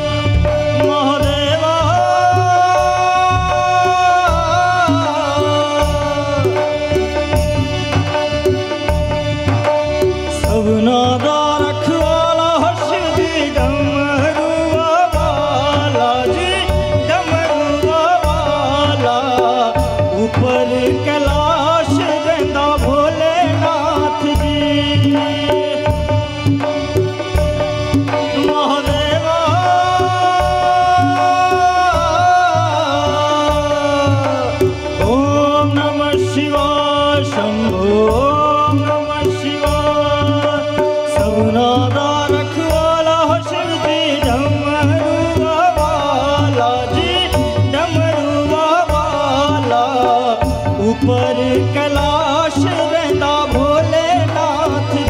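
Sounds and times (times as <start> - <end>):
harmonium and keyboard melody: 0.0 - 55.0
tabla rhythm: 0.0 - 55.0.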